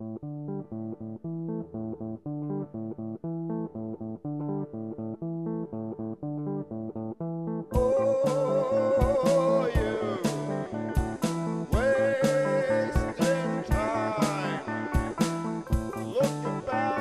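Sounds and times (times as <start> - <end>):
plucked guitar riff over bass: 0.0 - 17.0.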